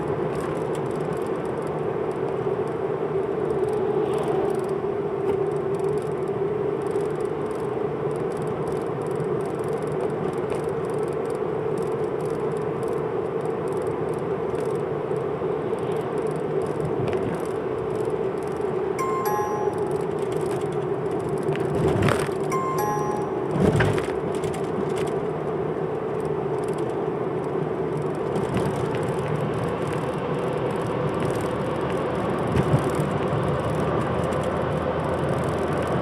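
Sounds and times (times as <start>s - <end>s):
car engine drone: 0.0s - 36.0s
road noise inside car: 0.0s - 36.0s.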